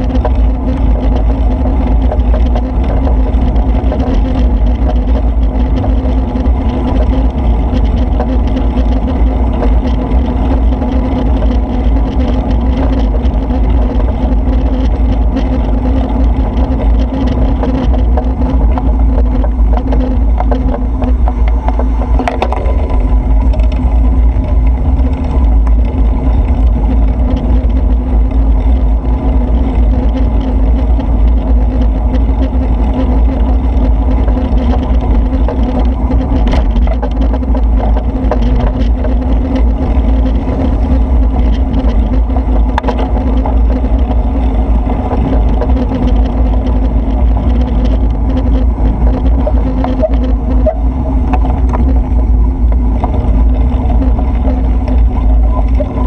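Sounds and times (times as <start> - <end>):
vehicle motor hum: 0.0 - 56.0
wind and road rumble: 0.0 - 56.0.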